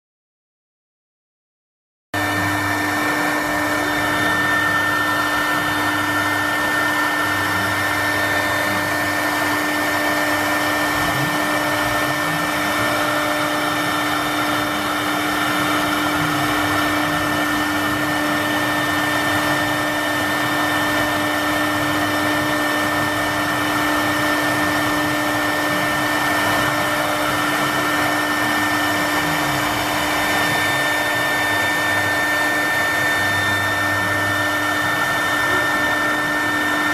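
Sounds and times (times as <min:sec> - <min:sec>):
router spindle motor whine: 0:02.2 - 0:36.9.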